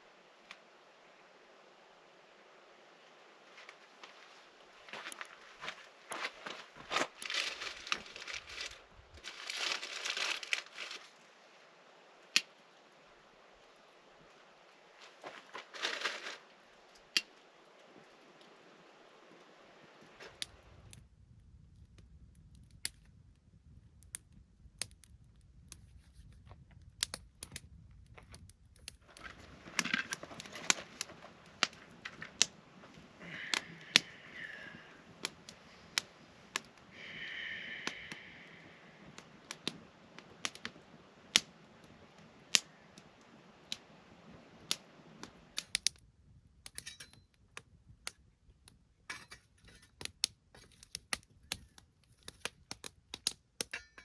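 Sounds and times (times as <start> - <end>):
campfire crackling and popping: 3.4 - 18.5, 20.1 - 43.9, 44.6 - 54.0.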